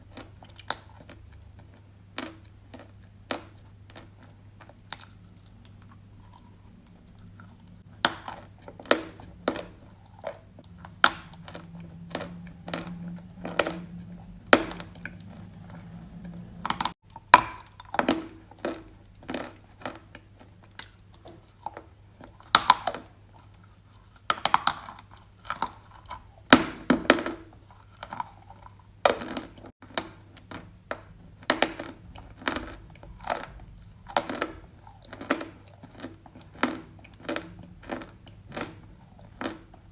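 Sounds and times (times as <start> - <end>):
clay being chewed with crunches: 0.0 - 39.9.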